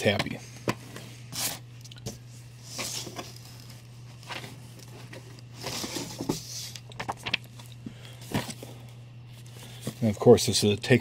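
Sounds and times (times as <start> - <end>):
comic books rustling: 0.0 - 10.6
low steady hum: 0.0 - 11.0.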